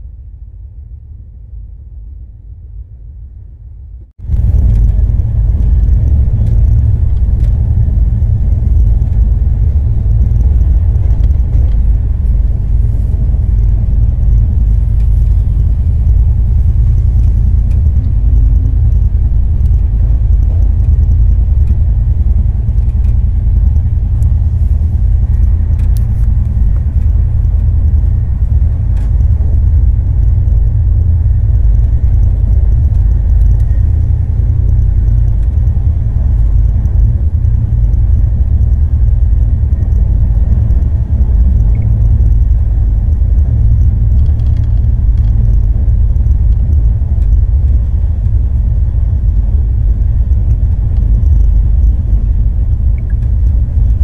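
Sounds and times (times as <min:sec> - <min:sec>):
train rumbling inside carriage: 0:00.0 - 0:54.0
faint ticks: 0:04.3 - 0:54.0.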